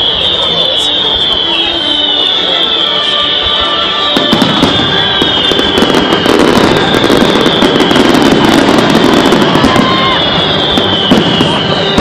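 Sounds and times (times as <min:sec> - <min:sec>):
fireworks crackling and popping: 0:00.0 - 0:12.0
high whistle-like tone: 0:00.0 - 0:12.0.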